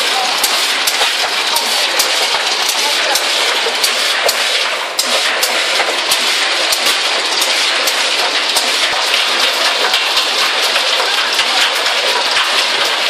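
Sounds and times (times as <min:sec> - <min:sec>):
popcorn clattering through chutes: 0:00.0 - 0:13.0
sharp machine clicks: 0:00.0 - 0:13.0.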